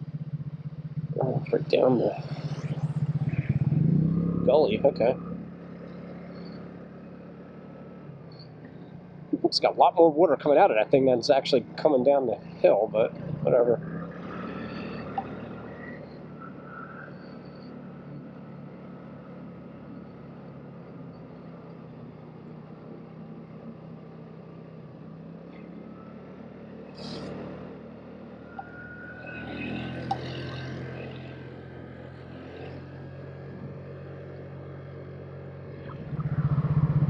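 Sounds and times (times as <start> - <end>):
scooter engine cruising: 0.0 - 37.0.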